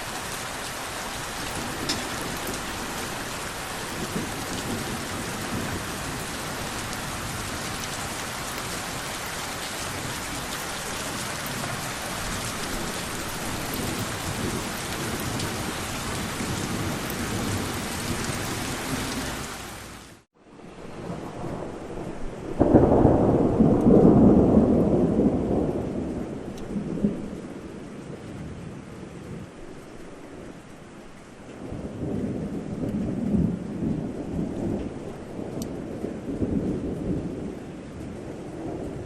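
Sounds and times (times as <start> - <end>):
low thunder rumbling: 0.0 - 19.5, 20.6 - 30.6, 31.6 - 39.0
heavy rain: 0.0 - 39.0.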